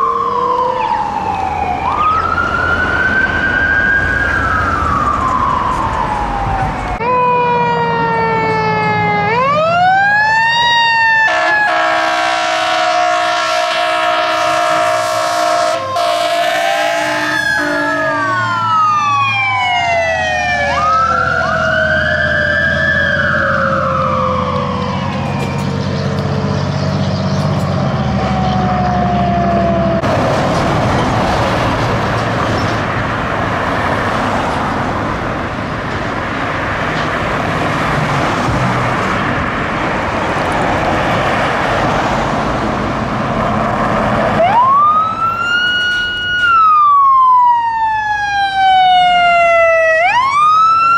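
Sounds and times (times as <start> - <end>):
fire engine sirens wailing: 0.0 - 50.9
passing traffic and tyre noise: 0.0 - 50.9
rising siren wail: 0.0 - 50.9.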